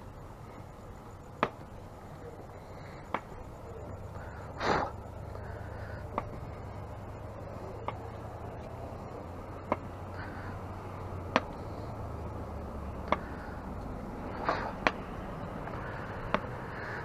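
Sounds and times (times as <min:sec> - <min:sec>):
low steady hum: 0:00.0 - 0:17.0
footsteps on brick sidewalk: 0:02.6 - 0:17.0.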